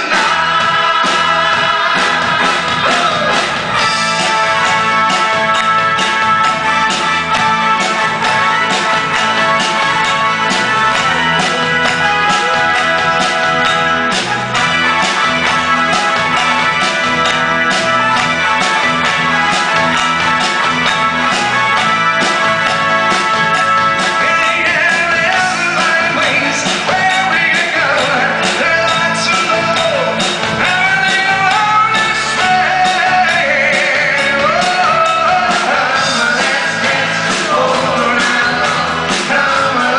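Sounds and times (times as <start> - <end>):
lead vocal singing: 0.0 - 39.9
rock band playing live: 0.0 - 39.9.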